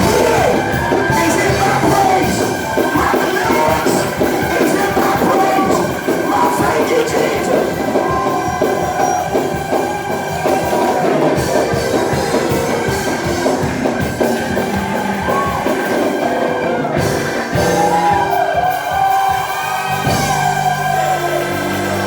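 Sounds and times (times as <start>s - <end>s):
drum kit: 0.0s - 22.0s
keyboard chords: 0.0s - 22.0s
people singing: 0.0s - 22.0s.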